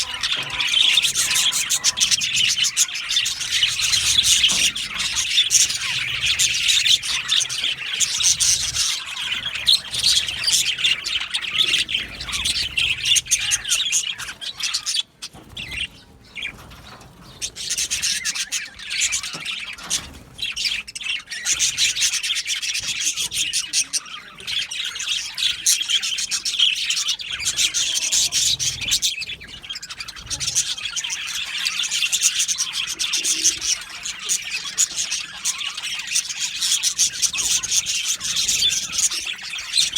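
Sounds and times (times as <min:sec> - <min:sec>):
flock of budgerigars chirping: 0:00.0 - 0:39.9.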